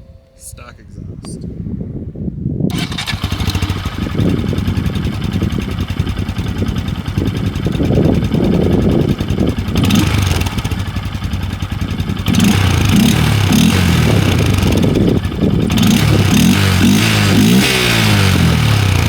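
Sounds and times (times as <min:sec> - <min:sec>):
motorcycle engine idling and revving: 0:02.7 - 0:19.0.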